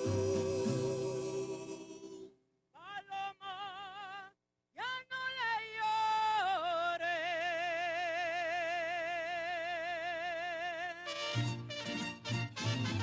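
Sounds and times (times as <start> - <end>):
person singing folk music: 0.0 - 11.7.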